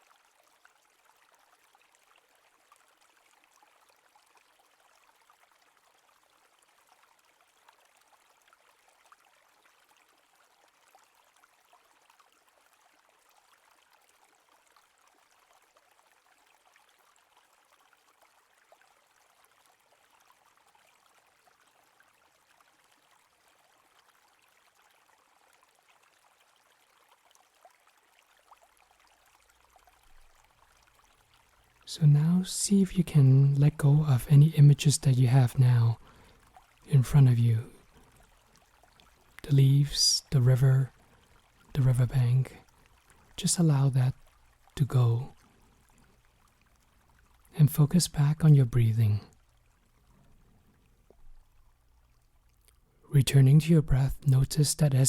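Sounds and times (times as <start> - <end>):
faint running water: 0.0 - 55.0.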